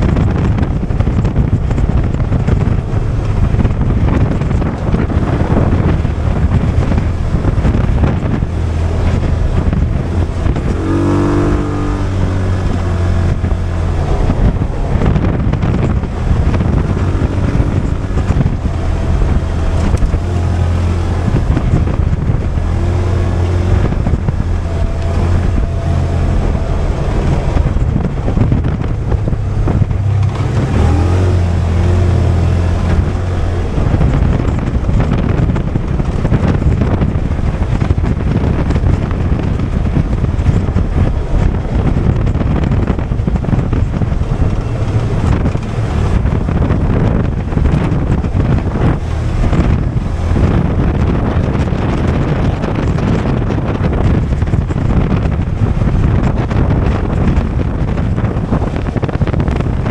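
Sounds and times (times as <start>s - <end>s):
off-road vehicle engine: 0.0s - 59.9s
wind on microphone: 0.0s - 59.9s.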